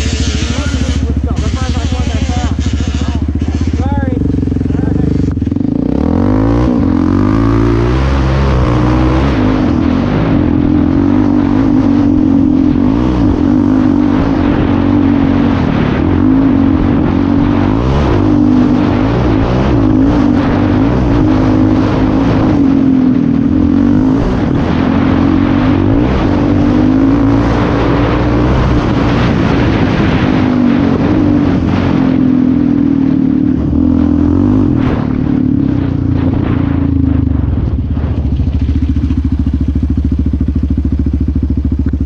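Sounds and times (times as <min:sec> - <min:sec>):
quad engine revving: 0:00.0 - 0:37.4.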